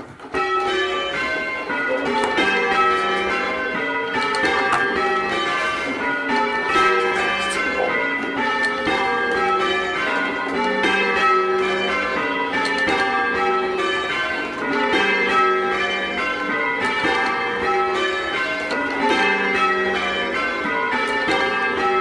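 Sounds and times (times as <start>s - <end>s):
church bells ringing changes: 0.0s - 22.0s.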